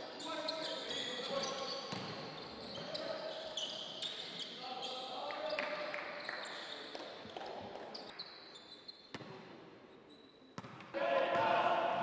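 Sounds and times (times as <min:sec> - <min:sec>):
sneaker squeaks: 0:00.0 - 0:09.4, 0:10.0 - 0:10.8.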